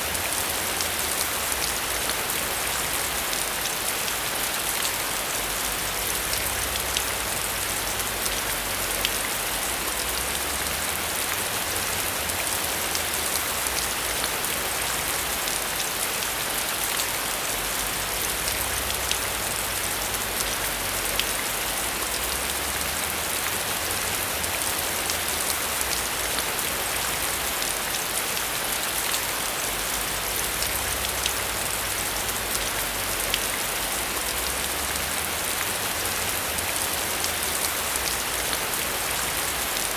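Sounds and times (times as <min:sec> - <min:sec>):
heavy rain with ticking drops: 0:00.0 - 0:39.9.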